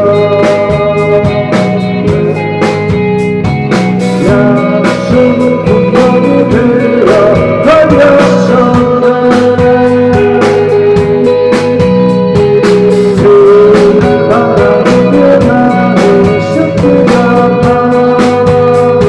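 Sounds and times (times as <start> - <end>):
person singing: 0.0 - 19.0
rock band playing live: 0.0 - 19.0.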